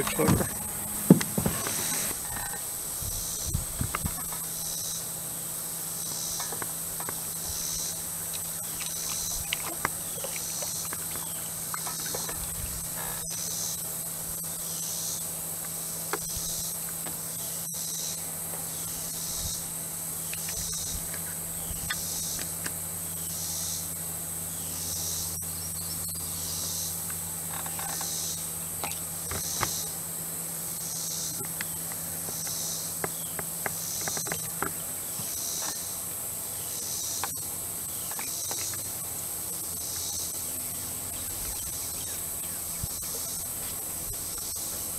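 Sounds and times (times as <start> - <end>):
insects high-pitched drone: 0.0 - 44.9
low steady hum: 0.0 - 44.9
pulsing insect chirp: 0.0 - 44.9.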